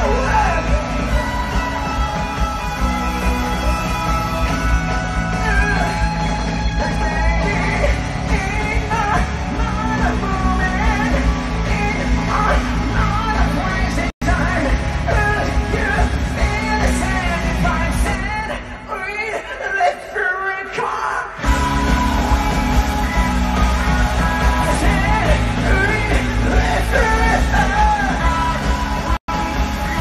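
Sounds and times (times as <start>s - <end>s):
live rock band playing: 0.0s - 19.3s, 21.3s - 30.0s
man singing: 0.0s - 30.0s.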